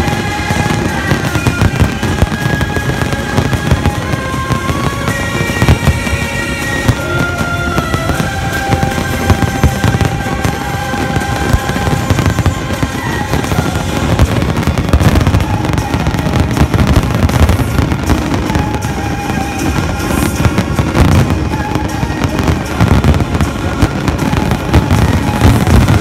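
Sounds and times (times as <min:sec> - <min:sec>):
fireworks booming and crackling: 0:00.0 - 0:26.0
music playing: 0:00.0 - 0:26.0.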